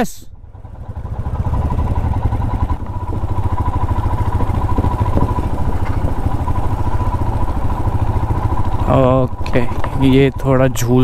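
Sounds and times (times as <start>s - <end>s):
motorcycle engine thumping: 0.4s - 11.0s.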